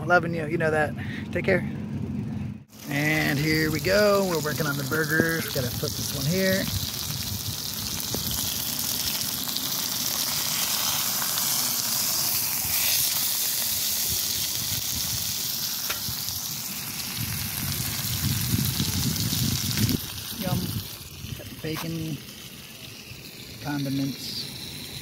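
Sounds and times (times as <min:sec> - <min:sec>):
patties sizzling in a frying pan: 0:02.7 - 0:25.0.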